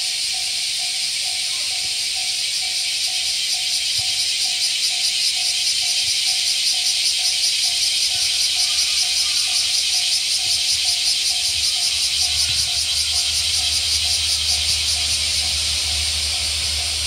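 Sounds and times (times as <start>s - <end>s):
cicadas buzzing: 0.0s - 17.0s
level-crossing warning bell dinging: 0.0s - 17.0s.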